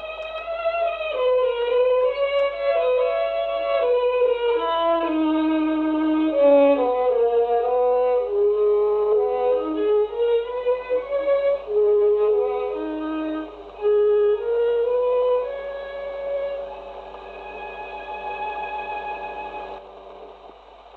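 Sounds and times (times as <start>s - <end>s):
slow instrumental melody: 0.0s - 20.9s.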